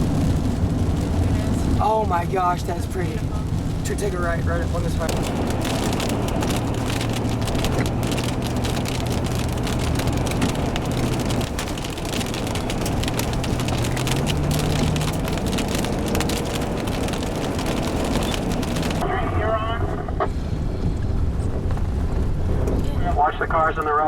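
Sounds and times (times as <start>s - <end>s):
car engine and road noise: 0.0s - 24.0s
rain ticking on car: 0.0s - 24.0s.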